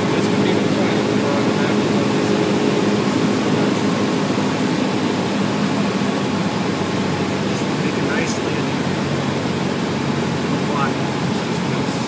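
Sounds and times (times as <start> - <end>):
aircraft engine drone: 0.0 - 12.0
airflow noise: 0.0 - 12.0.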